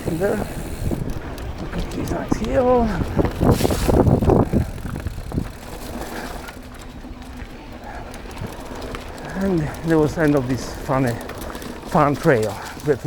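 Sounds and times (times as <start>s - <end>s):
bike rattling over rough ground: 0.0s - 13.0s
bike rolling with faint hum: 0.0s - 13.0s.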